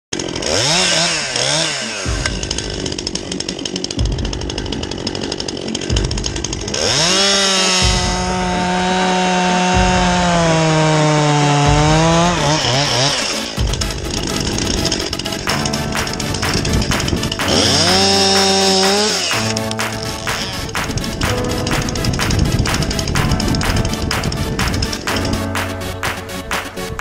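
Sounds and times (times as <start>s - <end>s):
chainsaw cutting wood: 0.1s - 27.0s.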